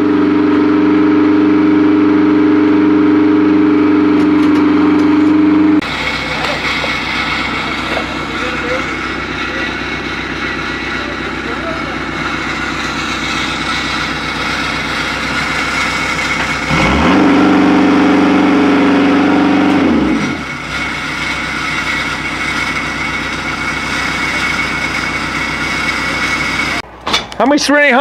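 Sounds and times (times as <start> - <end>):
mover engine running and revving: 0.0 - 26.8.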